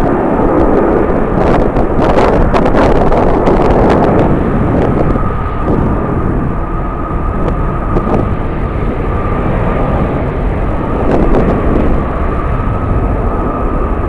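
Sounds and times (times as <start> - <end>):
jet engines whining: 0.0 - 14.0
wind buffeting microphone: 0.0 - 14.0.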